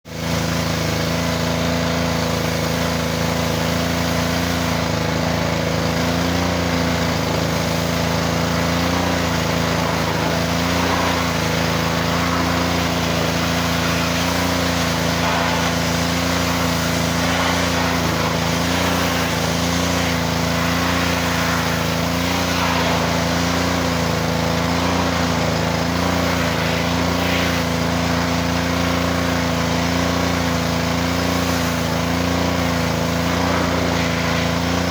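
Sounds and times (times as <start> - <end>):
pressure washer engine running: 0.0 - 34.9.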